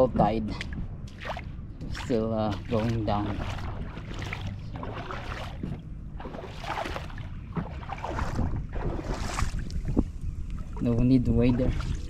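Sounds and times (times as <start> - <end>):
wind rumble on microphone: 0.0 - 12.0
footsteps splashing through water: 1.1 - 10.8.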